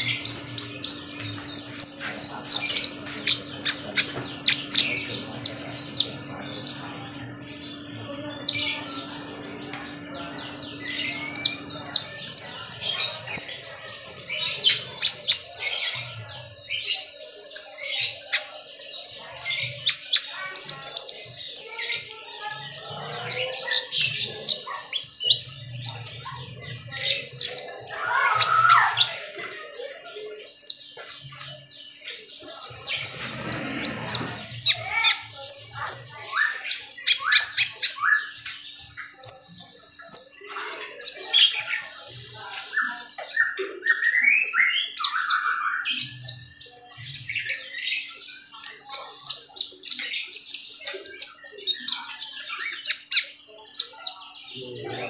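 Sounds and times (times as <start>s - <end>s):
bird twittering: 0.0s - 55.0s.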